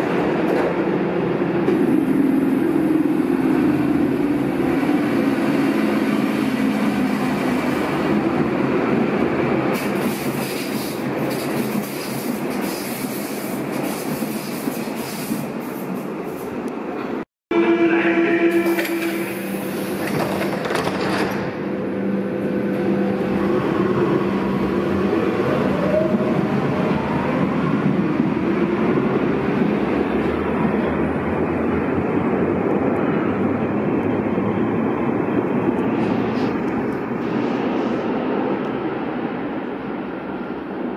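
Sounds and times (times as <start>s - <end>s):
train wheels rumbling on rail: 0.0s - 17.2s, 18.5s - 40.9s.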